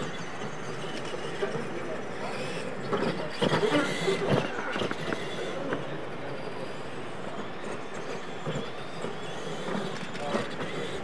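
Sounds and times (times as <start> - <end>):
electric motors whirring: 0.0 - 11.0.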